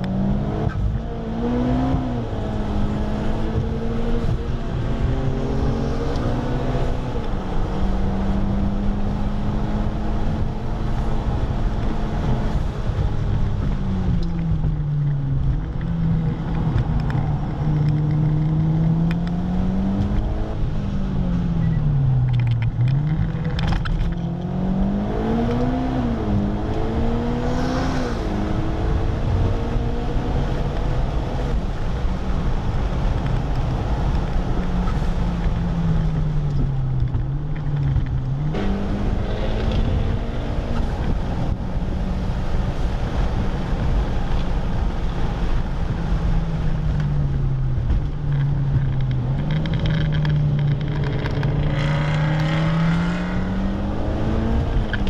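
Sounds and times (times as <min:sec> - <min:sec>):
car engine from inside cabin: 0:00.0 - 0:55.0
road and wind noise: 0:00.0 - 0:55.0.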